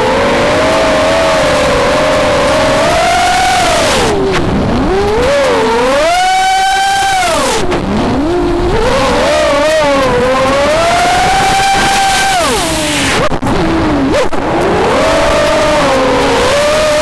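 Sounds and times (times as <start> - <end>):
quadcopter motors whining: 0.0 - 13.7.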